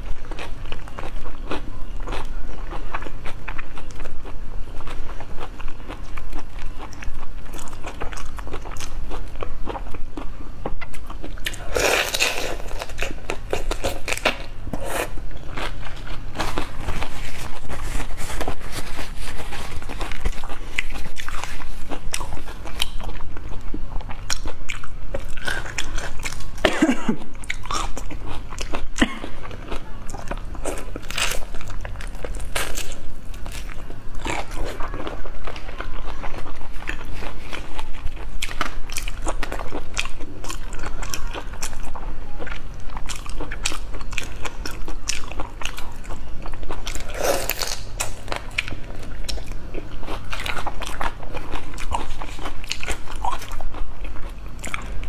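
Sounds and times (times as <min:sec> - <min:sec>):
biting and chewing: 0:00.0 - 0:55.0.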